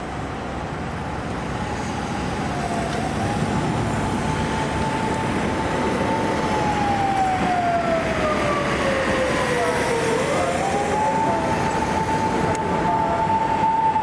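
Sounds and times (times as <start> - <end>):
traffic rumble: 0.0 - 14.0
police siren wailing: 1.8 - 14.0.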